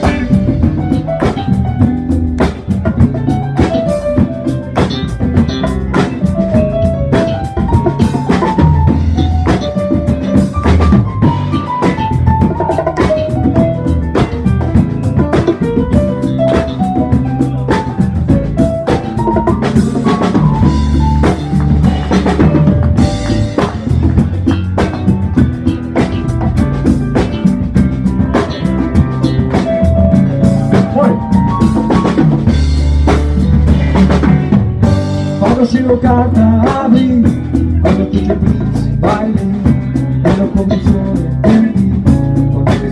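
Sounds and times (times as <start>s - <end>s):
bass line: 0.0s - 42.9s
drum kit beat: 0.0s - 42.9s
funk band playing: 0.0s - 42.9s.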